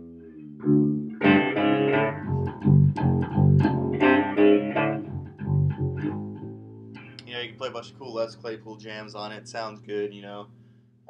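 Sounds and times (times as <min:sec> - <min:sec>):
fretless electric bass riff: 0:00.0 - 0:10.8.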